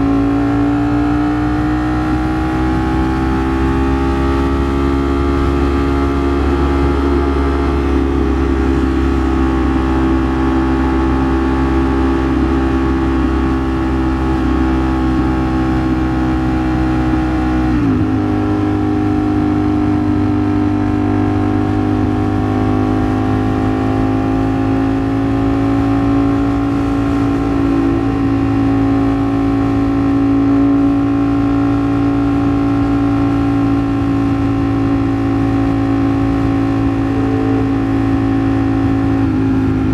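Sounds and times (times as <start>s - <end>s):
motorcycle engine at highway speed: 0.0s - 39.9s.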